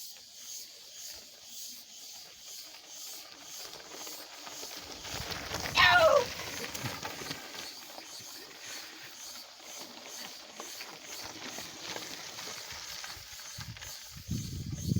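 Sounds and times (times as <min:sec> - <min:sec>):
cicadas buzzing: 0:00.0 - 0:14.9.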